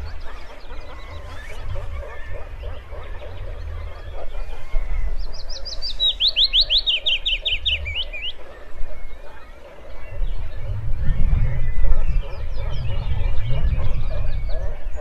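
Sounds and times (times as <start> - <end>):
faint chirps of other birds: 0.0 - 15.0
warbler singing a fast trill: 0.0 - 15.0.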